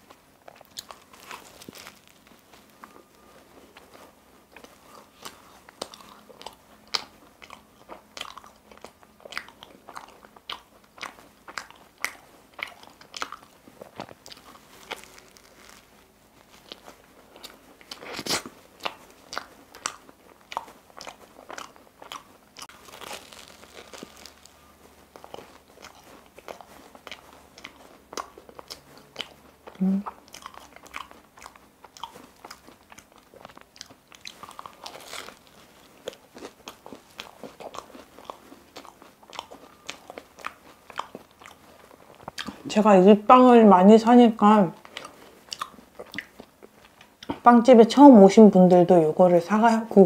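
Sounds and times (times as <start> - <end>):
pastry crunching: 0.0 - 42.7
soft chewing: 0.0 - 48.5.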